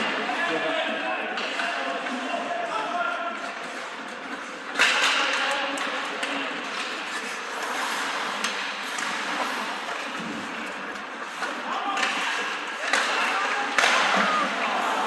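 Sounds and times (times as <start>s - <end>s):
arena crowd hubbub: 0.0s - 15.0s
hockey puck crack: 1.3s - 15.0s
sticks and puck clacking: 1.3s - 15.0s.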